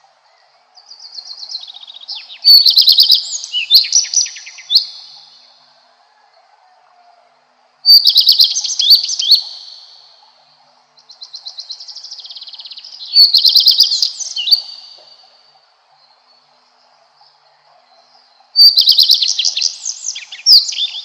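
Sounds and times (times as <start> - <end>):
bird singing twittering trill: 0.0 - 6.5, 7.8 - 21.0.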